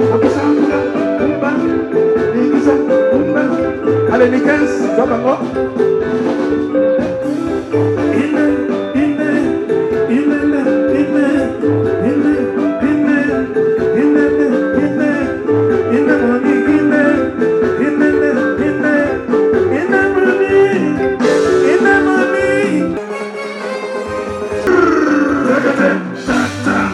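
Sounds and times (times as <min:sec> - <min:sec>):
band music with plucked guitar: 0:00.0 - 0:26.9.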